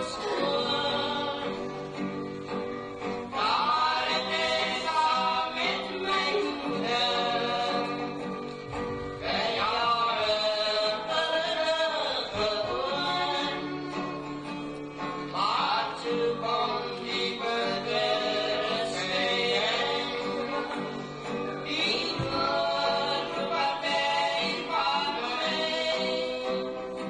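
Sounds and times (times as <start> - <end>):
person singing with accompaniment: 0.0 - 27.0.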